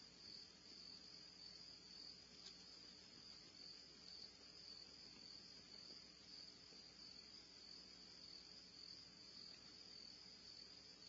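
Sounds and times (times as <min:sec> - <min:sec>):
insect chorus trilling: 0:00.0 - 0:11.0.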